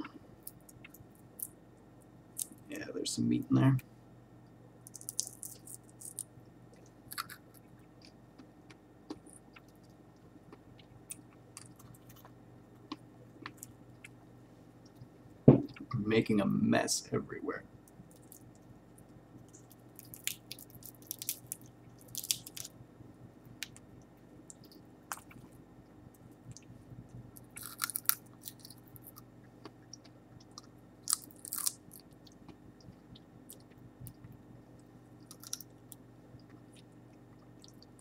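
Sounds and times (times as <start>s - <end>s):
crunchy chewing of dry shell: 4.4s - 15.2s, 17.8s - 22.8s, 23.4s - 38.0s.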